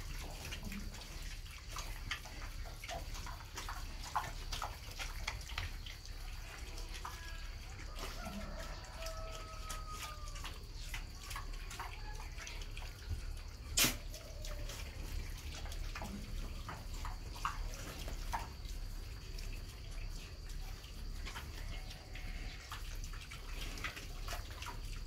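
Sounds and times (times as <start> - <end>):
piglets smacking and slurping: 0.0 - 25.0.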